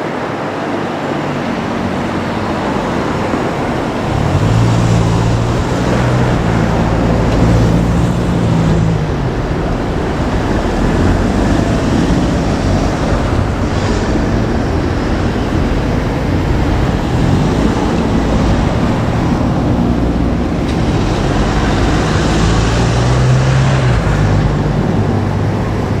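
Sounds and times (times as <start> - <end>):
vehicles driving past: 0.0 - 26.0.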